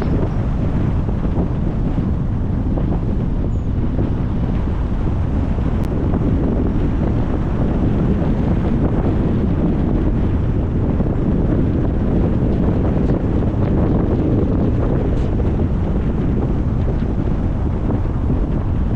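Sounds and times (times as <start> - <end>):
wind rumble on microphone: 0.0 - 18.9.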